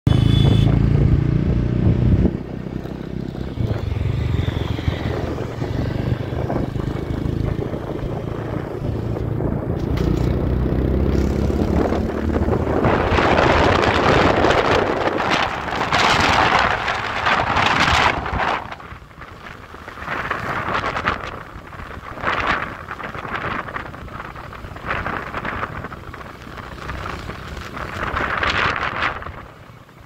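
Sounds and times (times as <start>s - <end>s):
motorcycle engine running: 0.1s - 29.4s
wind buffeting microphone: 0.4s - 29.8s.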